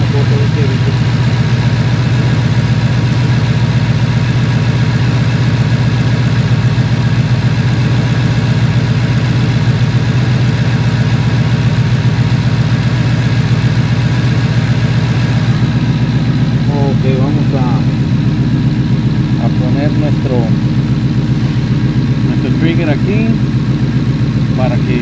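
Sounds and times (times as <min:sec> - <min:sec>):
car engine idling unevenly: 0:00.0 - 0:25.0.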